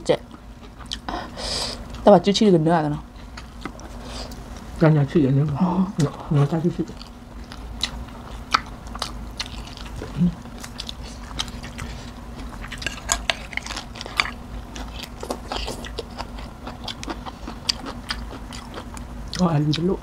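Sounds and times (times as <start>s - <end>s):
chewing and crunching food: 0.2s - 1.1s, 3.1s - 4.7s, 5.3s - 20.0s.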